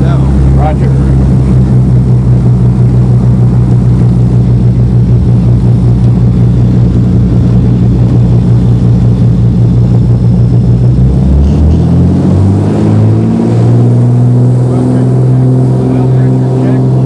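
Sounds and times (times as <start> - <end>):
propeller plane engines running: 0.0 - 17.0.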